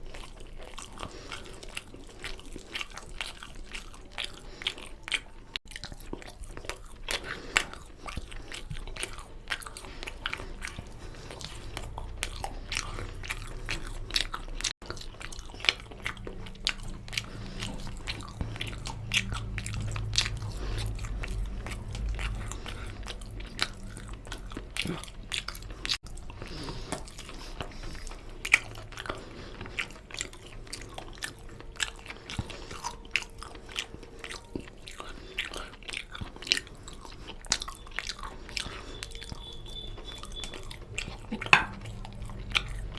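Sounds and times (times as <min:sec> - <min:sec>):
chewing and mouth noises: 0:00.0 - 0:42.9.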